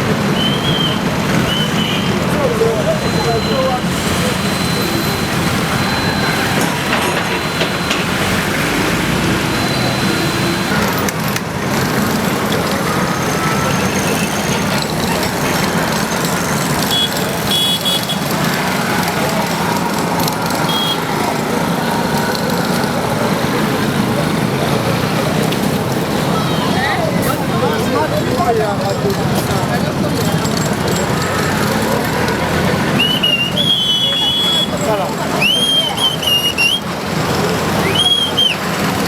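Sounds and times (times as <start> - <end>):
heavy engine running: 0.0 - 39.0
loud street noise: 0.0 - 39.0.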